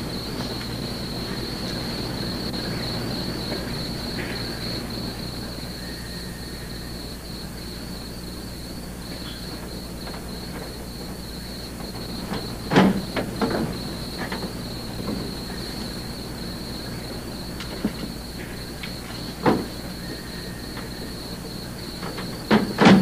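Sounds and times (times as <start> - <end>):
crickets chirping: 0.0 - 23.0
low electrical hum: 0.0 - 23.0.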